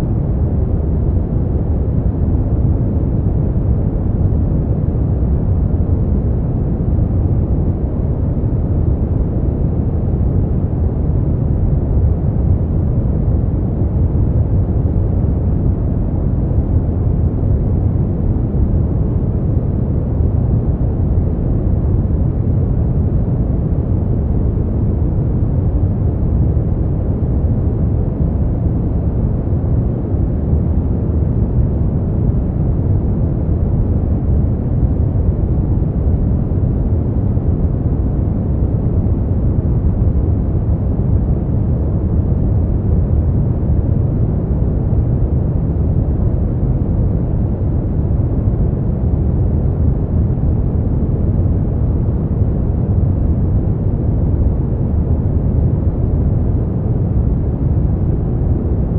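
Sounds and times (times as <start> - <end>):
brown noise: 0.0 - 58.9.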